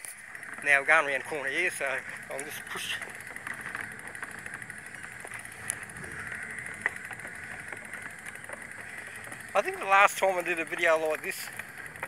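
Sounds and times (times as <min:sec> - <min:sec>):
rushing noise of bicycle riding: 0:00.0 - 0:12.0.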